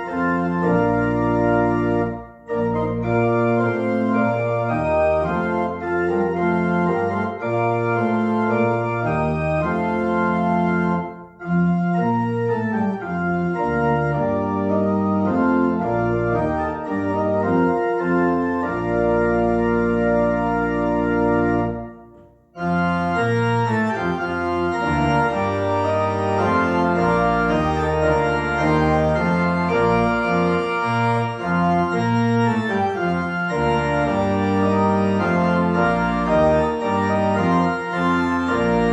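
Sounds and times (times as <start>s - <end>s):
organ playing sustained chords: 0.0s - 38.9s.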